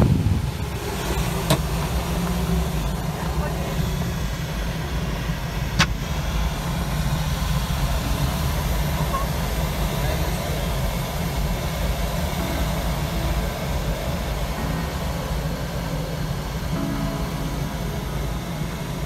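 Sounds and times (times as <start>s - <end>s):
glider cockpit rumble: 0.0s - 19.0s.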